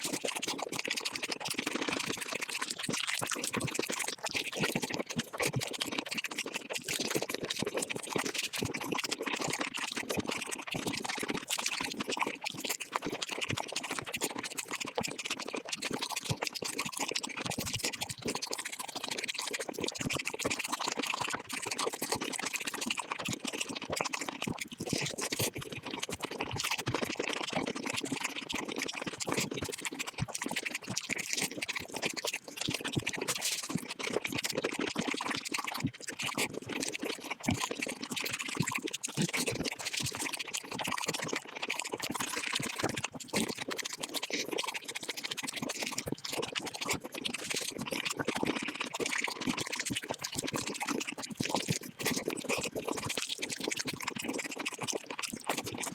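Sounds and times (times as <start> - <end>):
sped-up crunching and chewing: 0.0 - 55.9.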